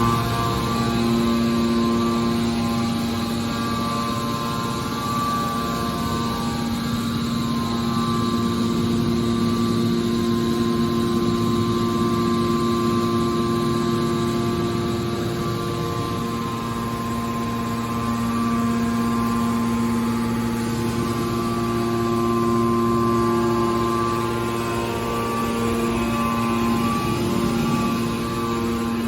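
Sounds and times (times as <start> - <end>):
hydraulic power unit humming: 0.0 - 29.0.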